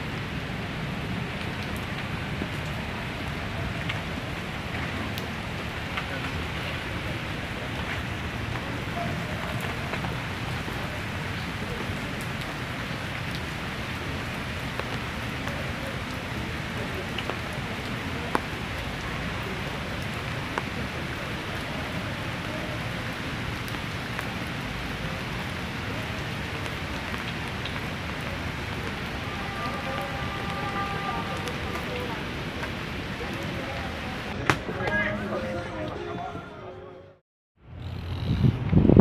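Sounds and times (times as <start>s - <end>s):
heavy rain pouring: 0.0s - 36.1s.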